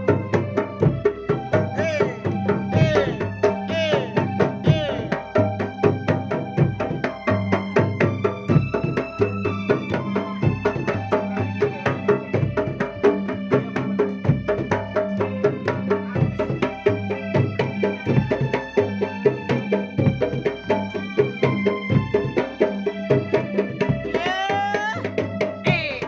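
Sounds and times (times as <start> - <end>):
held melodic tones: 0.0 - 24.9
fast bass and hand drumming: 0.0 - 26.0.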